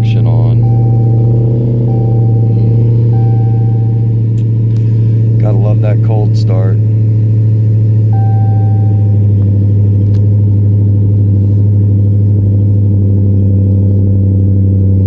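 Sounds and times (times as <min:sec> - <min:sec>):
car engine idling loudly: 0:00.0 - 0:15.0.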